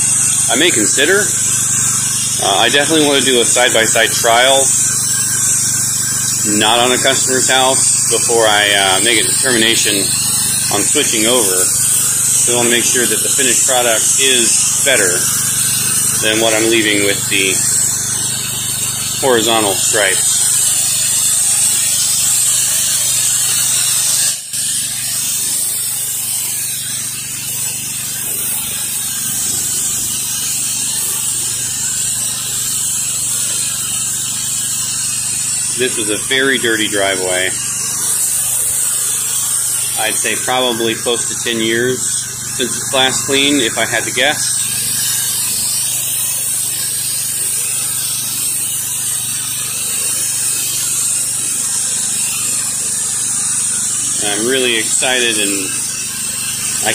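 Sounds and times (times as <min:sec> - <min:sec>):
pressure washer machine hum: 0:00.0 - 0:56.9
pressure washer spray hissing: 0:00.0 - 0:56.9.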